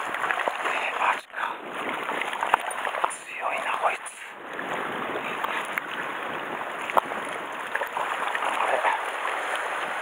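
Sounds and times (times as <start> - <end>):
seawater washing around rocks: 0.0 - 10.0.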